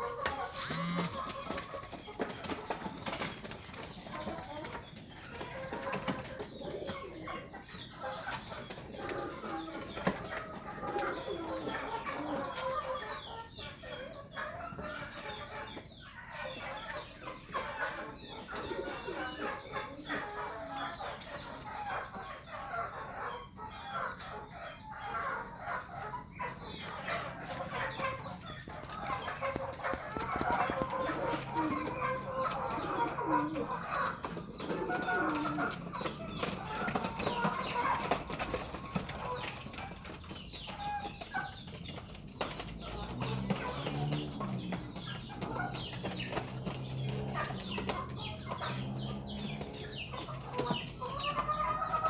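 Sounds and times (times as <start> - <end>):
flock of birds calling: 0.0 - 52.0.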